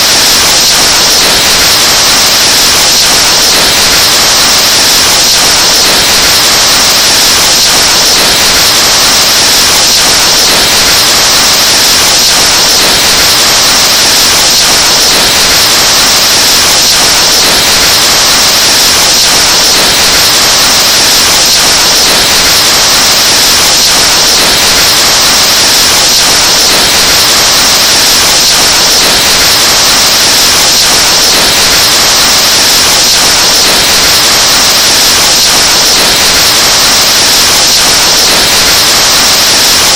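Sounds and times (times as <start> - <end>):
distorted breath hiss into microphone: 0.0 - 39.9.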